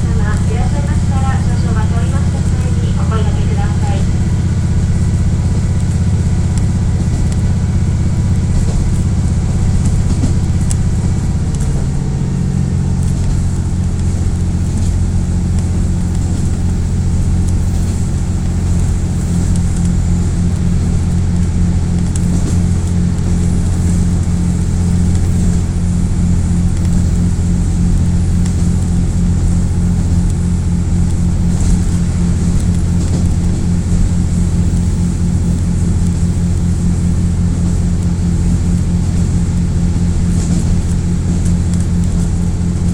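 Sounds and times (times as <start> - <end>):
diesel railcar engine droning: 0.0 - 42.9.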